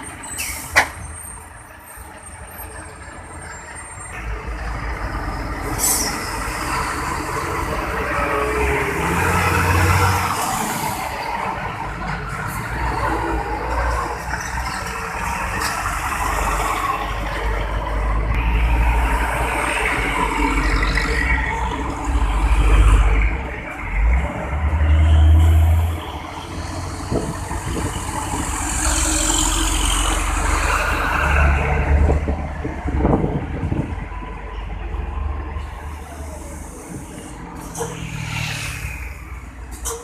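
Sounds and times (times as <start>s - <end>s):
diesel engines rumbling: 0.0s - 40.0s
trucks passing by: 0.0s - 40.0s.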